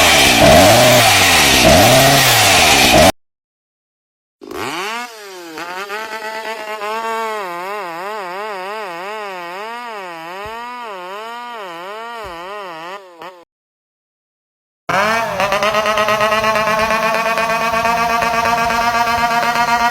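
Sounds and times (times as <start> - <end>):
buzzing chainsaw sound effect: 0.0 - 3.1, 4.4 - 13.4, 14.9 - 19.9.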